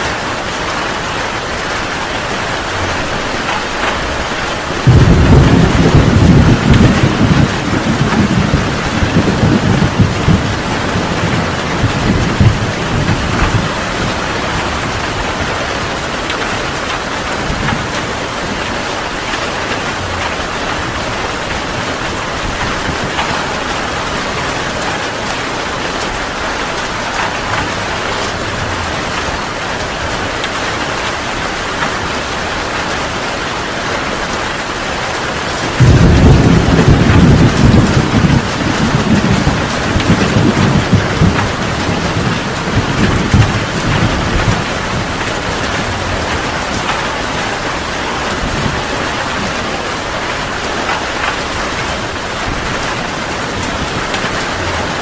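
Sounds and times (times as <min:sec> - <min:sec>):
heavy rain pouring: 0:00.0 - 0:55.0
thunder rumble: 0:00.2 - 0:32.0, 0:35.4 - 0:55.0.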